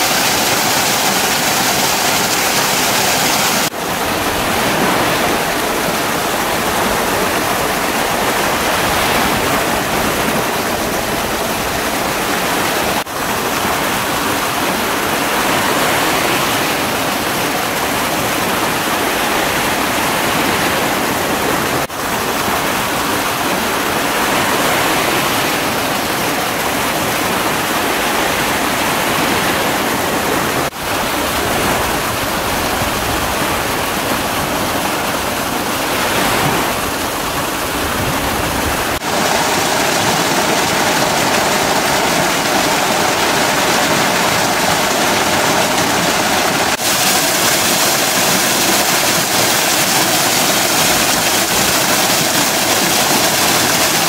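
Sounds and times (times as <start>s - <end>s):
waterfall and stream rushing: 0.0s - 54.0s.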